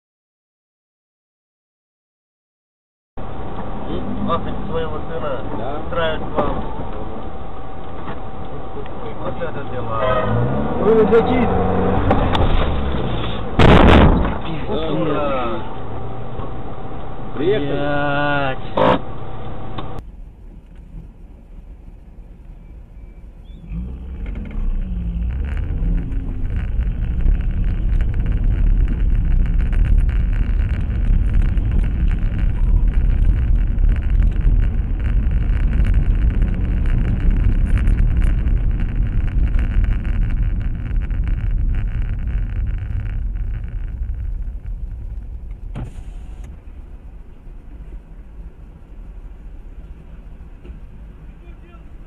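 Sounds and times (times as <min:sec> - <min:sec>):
car engine: 0:03.2 - 0:52.0
road noise: 0:03.2 - 0:52.0.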